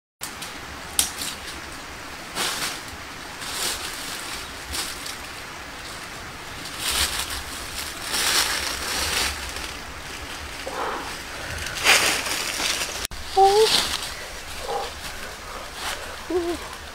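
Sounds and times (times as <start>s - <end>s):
dry leaves crunching underfoot: 2.3s - 16.9s.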